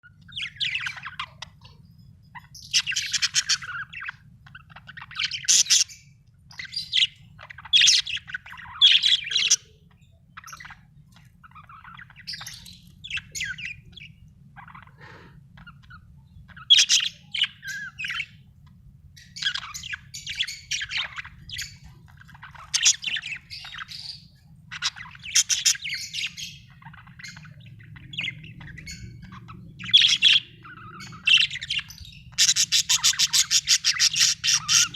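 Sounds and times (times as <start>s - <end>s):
budgerigar chirping: 0.2s - 18.5s, 19.2s - 34.9s.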